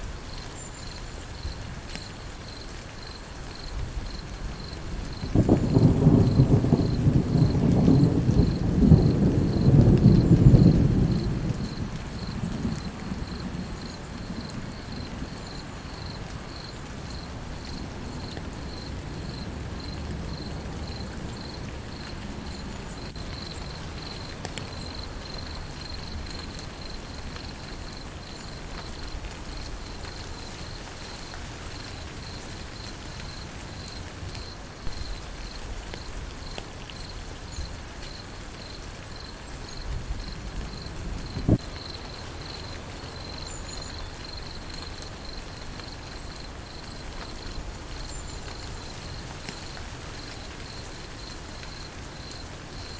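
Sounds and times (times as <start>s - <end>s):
steady rain: 0.0s - 52.9s
cricket chirping: 0.3s - 52.9s.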